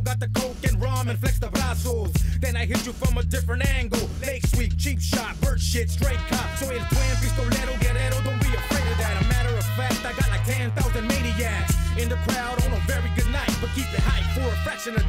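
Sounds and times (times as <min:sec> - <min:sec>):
deep bass line: 0:00.0 - 0:15.0
drum beat: 0:00.0 - 0:15.0
rapping over a beat: 0:00.0 - 0:15.0.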